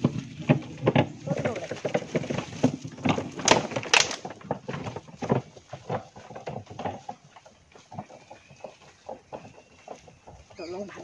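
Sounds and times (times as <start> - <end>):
wooden cart clattering on bamboo: 0.0 - 11.0.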